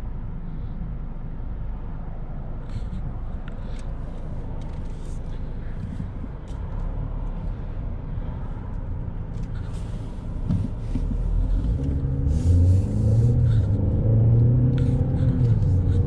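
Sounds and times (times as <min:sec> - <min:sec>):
car engine hum: 0:00.0 - 0:16.0
road noise: 0:00.0 - 0:16.0.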